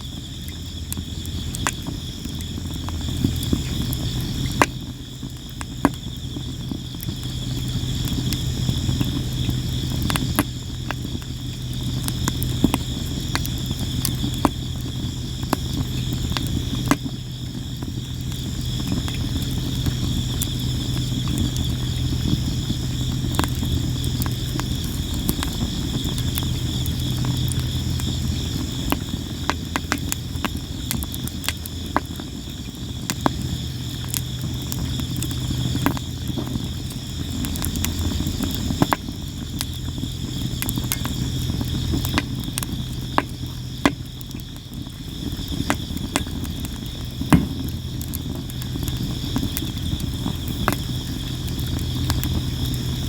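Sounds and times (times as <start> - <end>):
campfire crackling and popping: 0.0 - 53.0
crickets chirping: 0.0 - 53.0.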